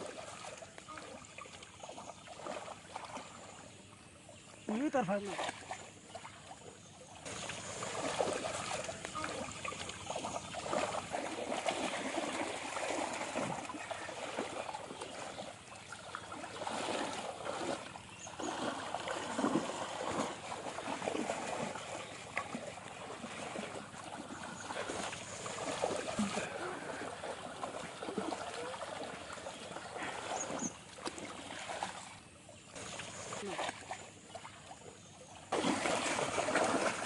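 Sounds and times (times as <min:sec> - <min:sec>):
muddy water splashing: 0:00.0 - 0:37.0.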